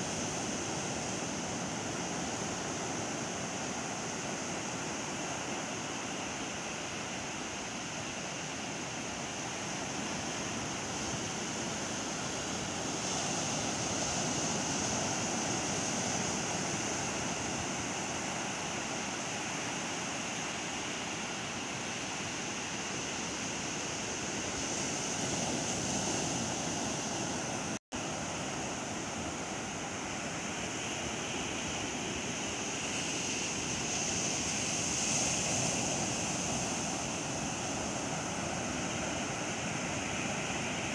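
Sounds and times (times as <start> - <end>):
sea surf breaking on beach: 0.0 - 40.9.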